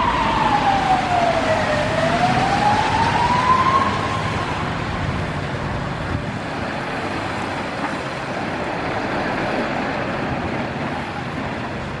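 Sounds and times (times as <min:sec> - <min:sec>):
truck diesel engine: 0:00.0 - 0:12.0
tyres hissing on wet road: 0:00.0 - 0:12.0.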